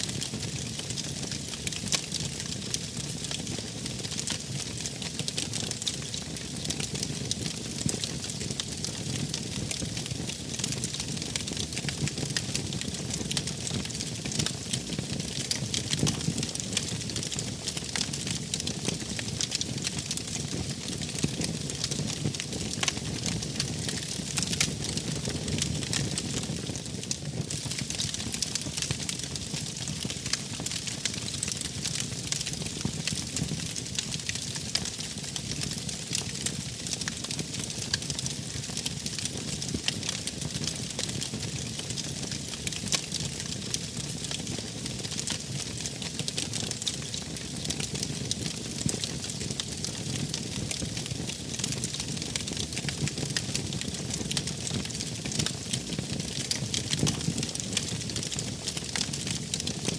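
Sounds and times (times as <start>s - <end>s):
wood fire crackling and popping: 0.1s - 59.9s.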